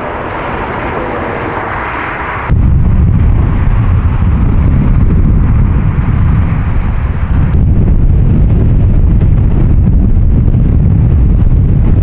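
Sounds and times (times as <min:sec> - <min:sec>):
jet engine deep rumble: 0:00.0 - 0:12.0
wind buffeting microphone: 0:00.0 - 0:12.0.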